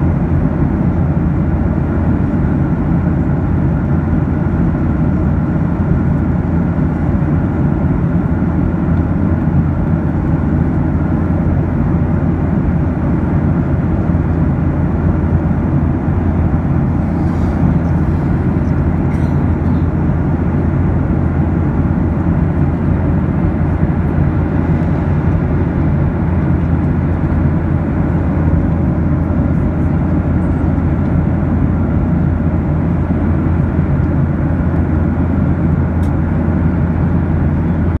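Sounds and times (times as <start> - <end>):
airliner cabin drone: 0.0 - 38.0
faint steady hum: 0.0 - 38.0.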